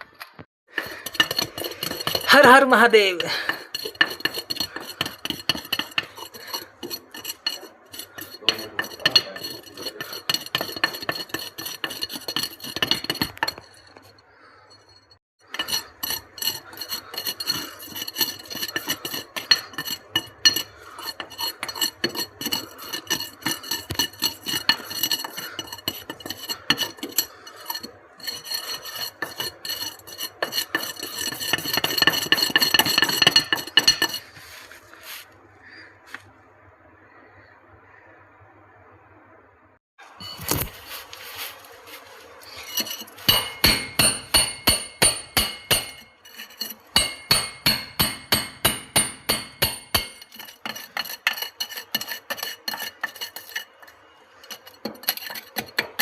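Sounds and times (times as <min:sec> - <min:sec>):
hand tools scraping and clinking: 0:00.0 - 0:35.4, 0:40.0 - 0:56.0.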